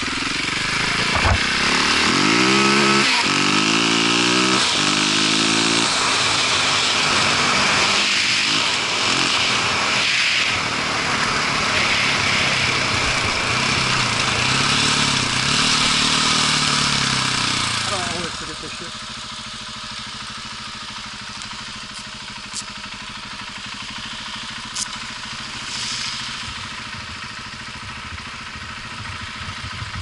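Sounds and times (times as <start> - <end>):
motorcycle engine shifting gears: 0.0 - 30.0.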